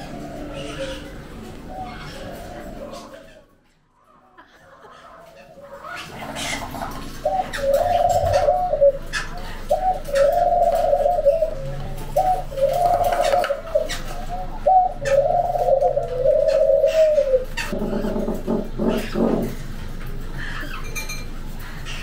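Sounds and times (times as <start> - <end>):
bird low calls: 0.0 - 3.4, 6.0 - 21.0.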